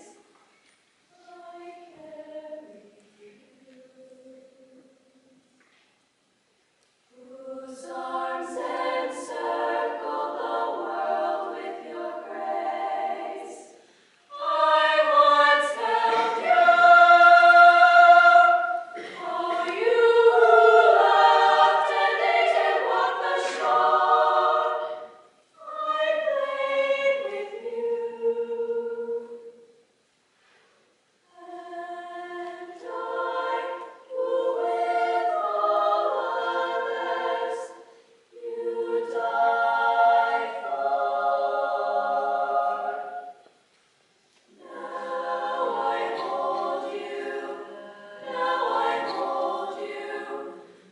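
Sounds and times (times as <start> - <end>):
women's choir singing a cappella: 0.0 - 0.3, 1.1 - 5.3, 7.1 - 29.8, 31.3 - 43.6, 44.5 - 50.9.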